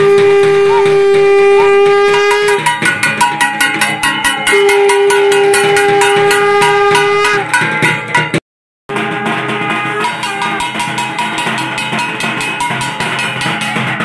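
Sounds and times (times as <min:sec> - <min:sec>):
gong beaten rapidly: 0:00.0 - 0:14.0.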